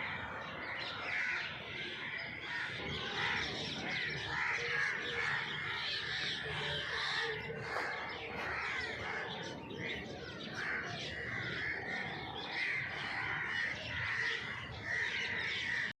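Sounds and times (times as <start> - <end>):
birds chorus calling: 0.0 - 16.0.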